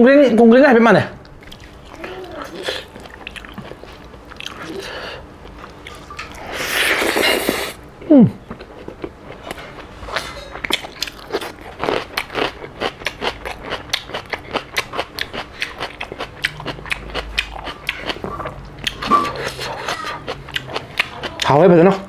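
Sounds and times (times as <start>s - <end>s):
chewing food: 1.2s - 7.7s, 8.5s - 22.0s.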